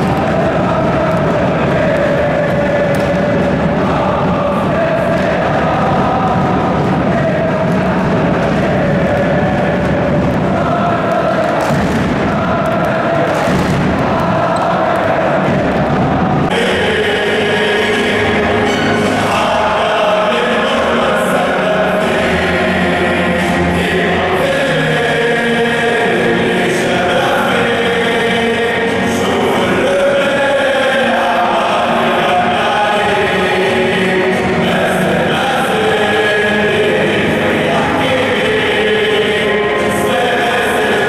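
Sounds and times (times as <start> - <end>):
crowd singing and chanting: 0.0 - 41.0.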